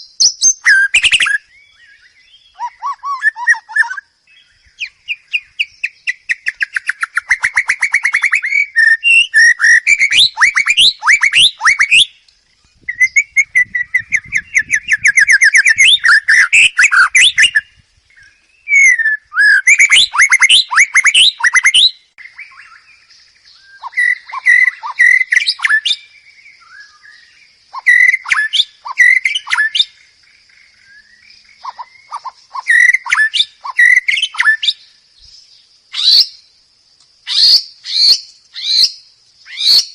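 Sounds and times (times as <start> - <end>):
bird singing whistles: 0.0 - 30.0, 30.7 - 36.5, 37.2 - 39.9.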